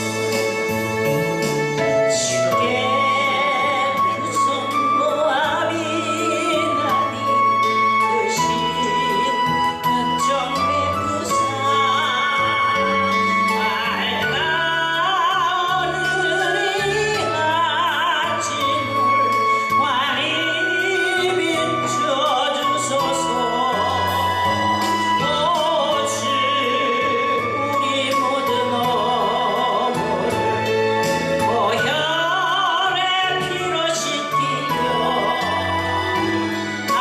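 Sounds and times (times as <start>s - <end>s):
sustained instrumental accompaniment: 0.0s - 37.0s.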